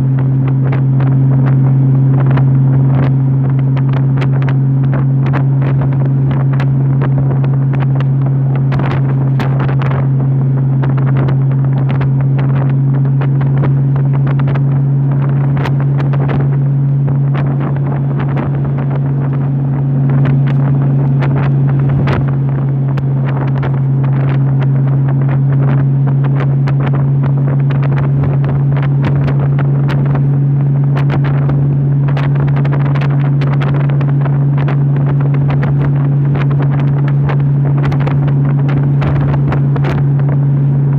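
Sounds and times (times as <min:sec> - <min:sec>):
motorcycle engine cruising: 0:00.0 - 0:40.9
wind buffeting microphone: 0:00.0 - 0:40.9.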